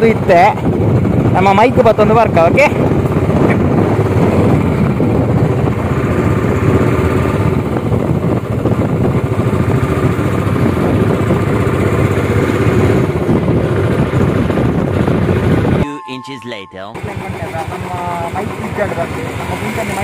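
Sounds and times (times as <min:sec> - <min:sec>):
motorcycle engine and wind noise: 0:00.0 - 0:15.8, 0:17.1 - 0:20.0.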